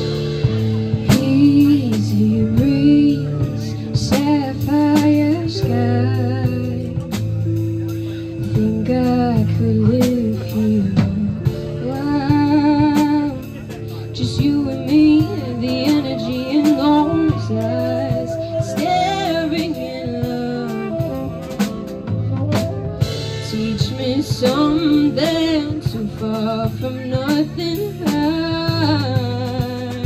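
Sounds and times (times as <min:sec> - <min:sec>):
bass line: 0:00.0 - 0:30.0
drum kit beat: 0:00.0 - 0:30.0
wavering lead melody: 0:00.0 - 0:30.0.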